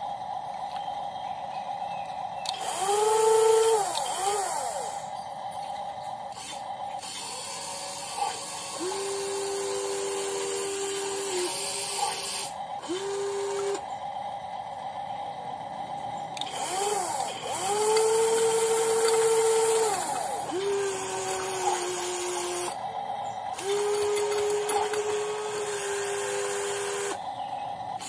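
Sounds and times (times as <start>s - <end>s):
toy excavator motors whining: 2.2s - 15.0s, 15.6s - 28.0s.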